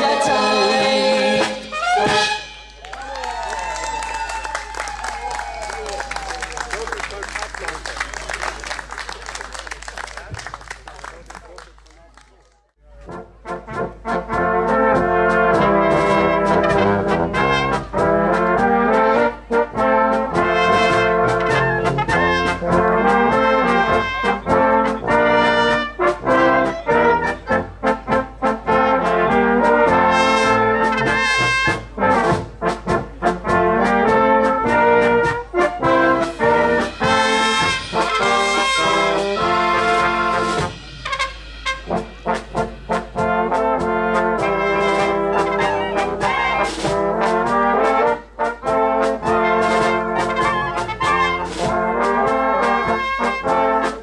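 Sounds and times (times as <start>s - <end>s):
brass band playing: 0.0s - 11.8s, 12.8s - 54.0s.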